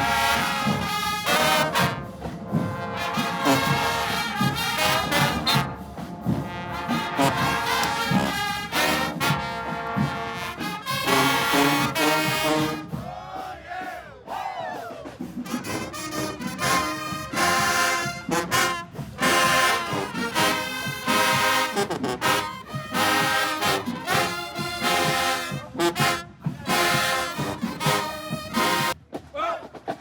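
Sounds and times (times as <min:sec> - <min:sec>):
brass band playing short chords: 0:00.0 - 0:14.0, 0:15.2 - 0:29.1.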